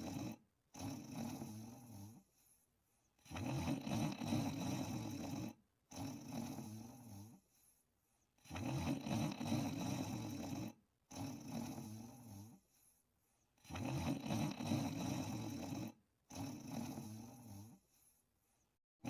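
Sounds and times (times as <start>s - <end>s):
person snoring: 0.0s - 2.3s, 3.2s - 7.4s, 8.4s - 12.7s, 13.6s - 18.0s.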